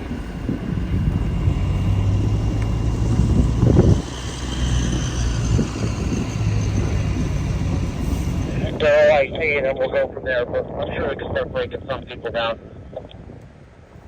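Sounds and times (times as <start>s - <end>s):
steady engine hum: 0.0s - 14.0s
wind buffeting microphone: 0.0s - 14.0s.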